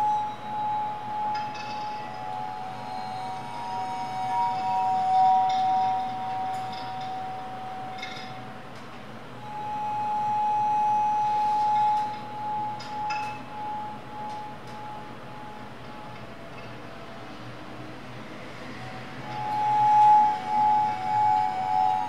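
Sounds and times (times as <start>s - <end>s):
sustained ringing tones: 0.0s - 8.7s, 9.4s - 16.7s, 18.7s - 22.0s.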